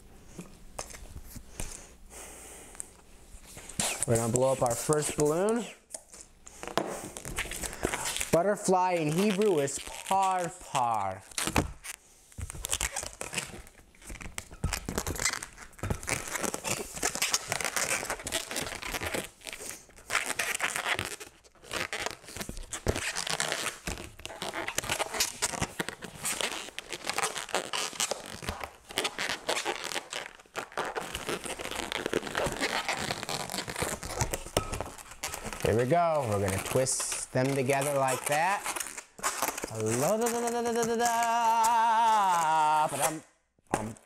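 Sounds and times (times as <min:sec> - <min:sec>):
balloons crinkling and rubbing: 0:02.7 - 0:44.0.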